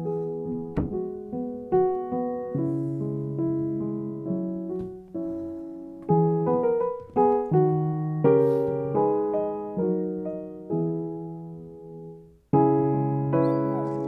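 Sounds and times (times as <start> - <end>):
piano chords melody: 0.0 - 14.0.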